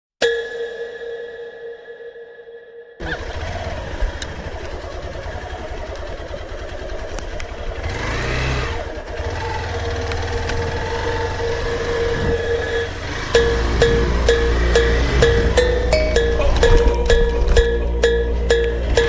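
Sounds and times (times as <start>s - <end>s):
motorcycle engine running: 3.0s - 19.0s.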